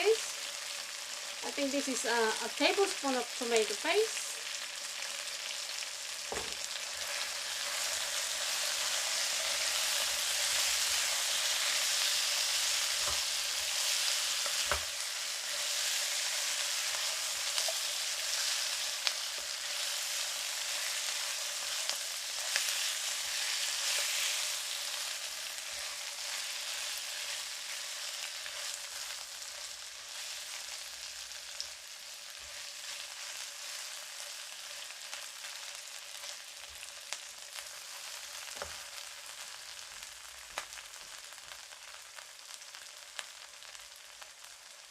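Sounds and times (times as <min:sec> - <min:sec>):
chicken sizzling in a pan: 0:00.0 - 0:44.9.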